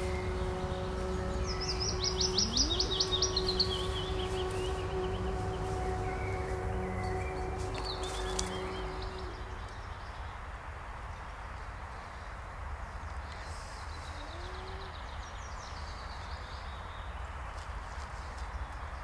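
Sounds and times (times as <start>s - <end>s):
low outdoor rumble: 0.0s - 16.4s
songbird chirping: 0.0s - 19.0s.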